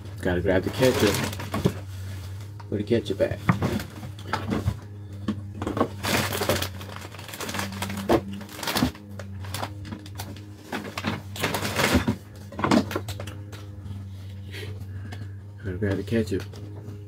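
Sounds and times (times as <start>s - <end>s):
rustling and clicking of objects: 0.0s - 17.0s
steady low hum: 0.0s - 17.0s.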